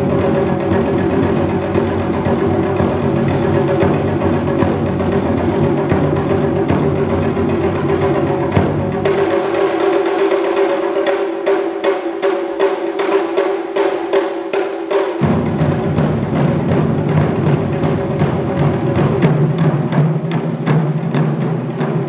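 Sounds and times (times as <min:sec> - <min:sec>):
deeper drum: 0:00.0 - 0:22.0
drums struck in driving rhythm: 0:00.0 - 0:22.0.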